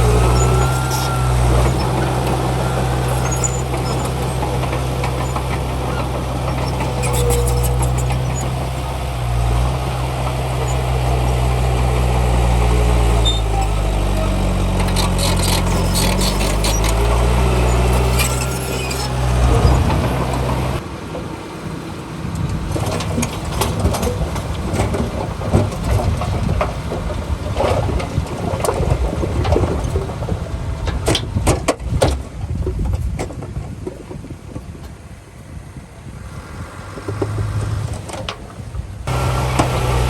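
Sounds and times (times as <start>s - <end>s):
machinery clattering and rattling: 0.0s - 21.4s, 22.2s - 34.3s, 37.0s - 40.0s
heavy diesel engine running: 0.0s - 31.5s, 35.8s - 40.0s.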